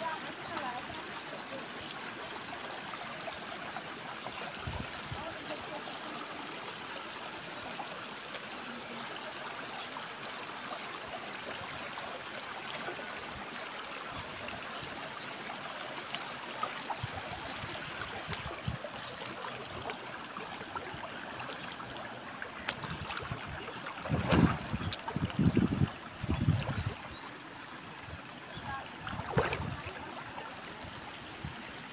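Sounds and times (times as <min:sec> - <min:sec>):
stream trickling over stones: 0:00.0 - 0:31.9.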